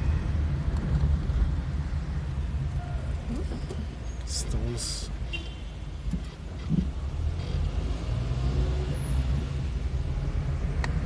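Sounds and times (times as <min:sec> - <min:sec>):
car engine and tyres droning: 0:00.0 - 0:11.0.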